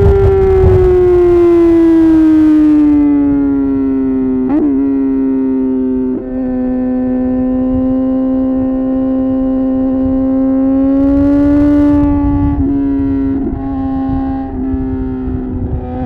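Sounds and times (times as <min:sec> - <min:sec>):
motorcycle engine high-revving: 0:00.0 - 0:16.0.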